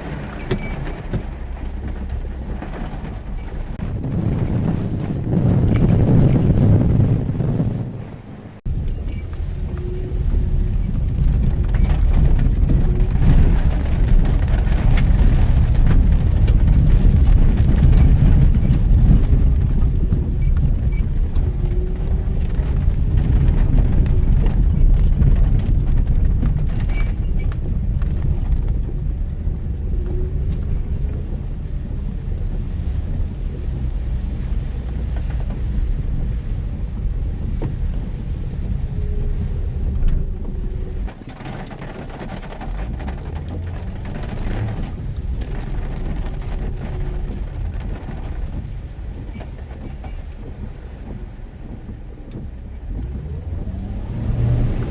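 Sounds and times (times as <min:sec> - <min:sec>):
car engine and tyres rumbling: 0:00.0 - 0:54.9
heavy rain: 0:00.0 - 0:54.9.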